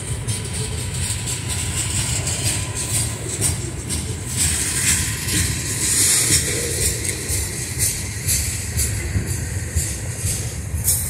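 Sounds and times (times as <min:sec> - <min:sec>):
freight cars rumbling on rails: 0:00.0 - 0:11.0
rushing hiss: 0:00.0 - 0:11.0.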